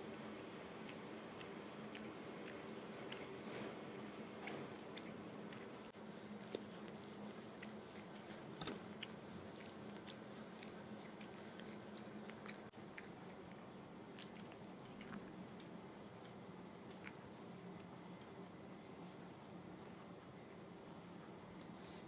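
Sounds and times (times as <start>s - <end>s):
cat chewing: 0.0s - 18.3s
steady low hum: 0.0s - 22.0s.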